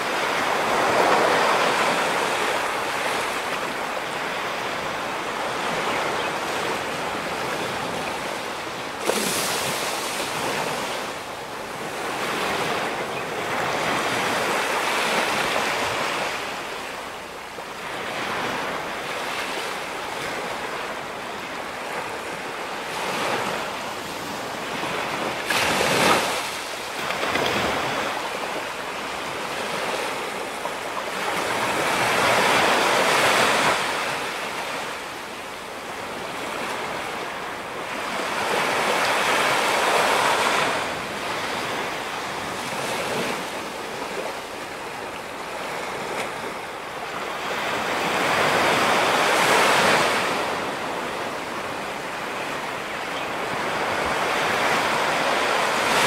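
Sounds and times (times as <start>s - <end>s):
ocean surf breaking on rocks: 0.0s - 17.0s, 17.8s - 56.0s.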